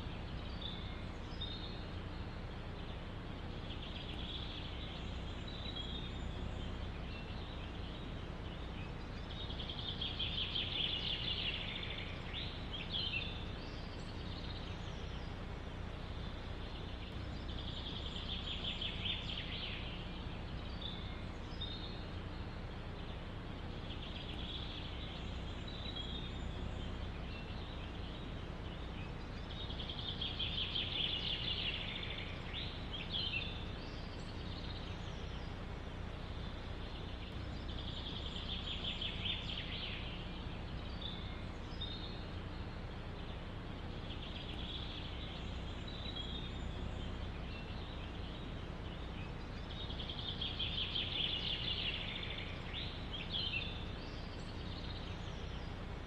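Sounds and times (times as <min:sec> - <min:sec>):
songbird trilling: 0:00.0 - 0:56.0.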